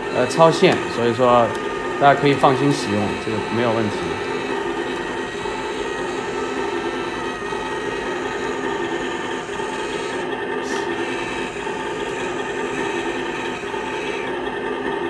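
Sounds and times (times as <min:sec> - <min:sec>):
small electric motor whirring: 0:00.0 - 0:15.0.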